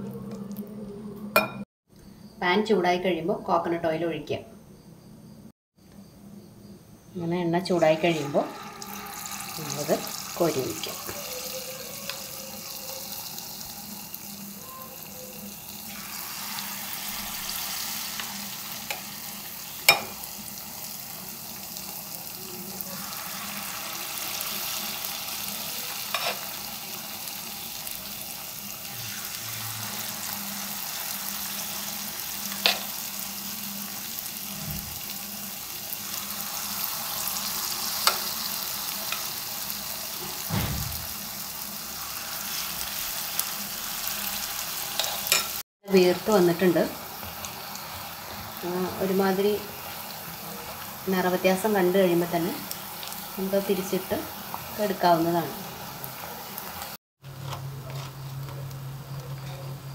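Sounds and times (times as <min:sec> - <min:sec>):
batter sizzling in oil: 0:07.3 - 0:59.9.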